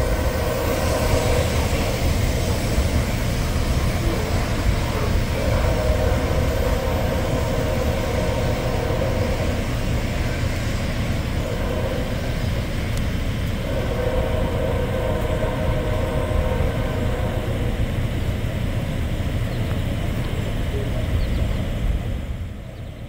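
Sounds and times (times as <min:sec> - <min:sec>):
humming tone: 0:00.0 - 0:22.8
train wheels rumbling on track: 0:00.0 - 0:23.0.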